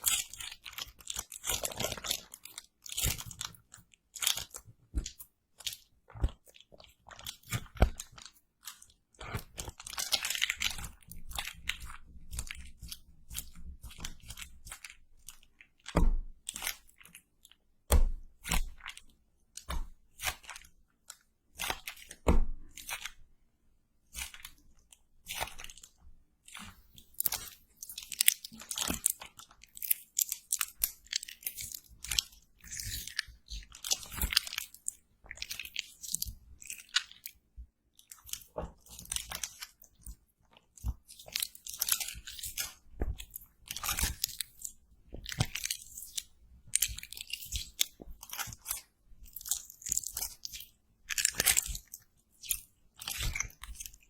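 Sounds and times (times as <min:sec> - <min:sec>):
close crunching and crackling: 0:00.0 - 0:23.2, 0:24.1 - 0:54.0.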